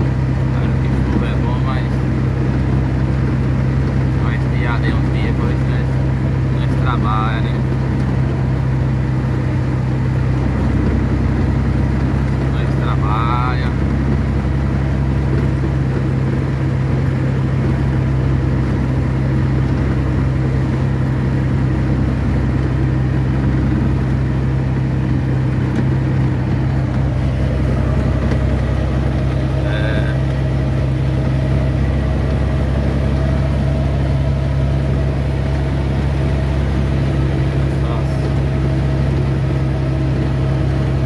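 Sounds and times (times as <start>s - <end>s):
road rumble: 0.0s - 41.0s
truck engine hum: 0.0s - 41.0s.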